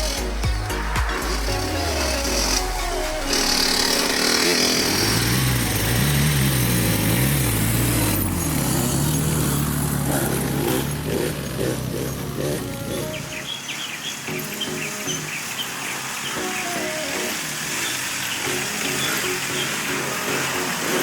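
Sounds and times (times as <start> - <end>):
two-stroke dirt-bike engine revving: 0.0 - 21.0.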